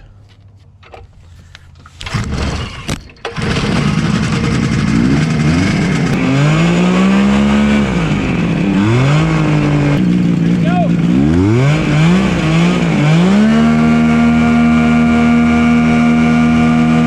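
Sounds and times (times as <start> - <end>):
aircraft engine starting and revving: 1.8 - 17.0.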